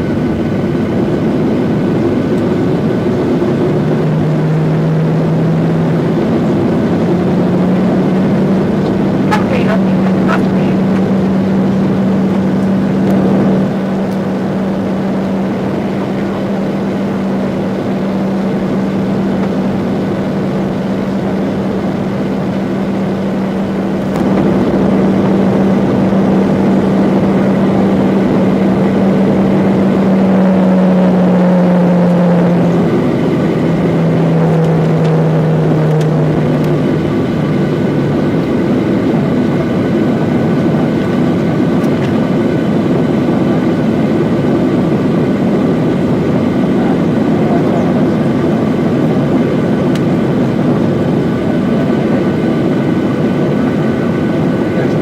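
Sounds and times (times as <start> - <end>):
jet engines humming and rushing: 0.0 - 55.0.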